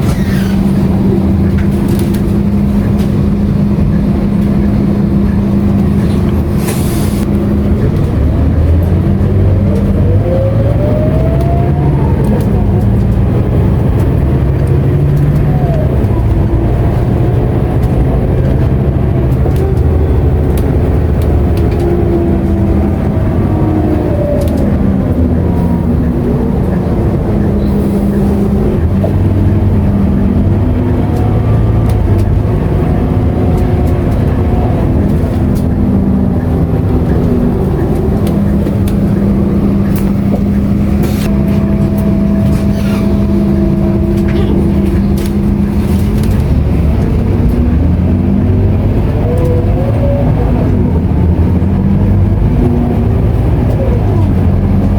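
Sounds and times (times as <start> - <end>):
bus diesel engine shifting gears: 0.0 - 54.9.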